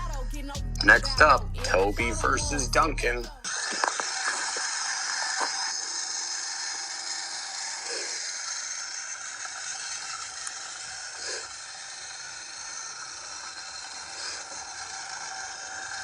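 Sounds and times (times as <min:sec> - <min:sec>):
toy train motor whine: 0:00.8 - 0:16.0.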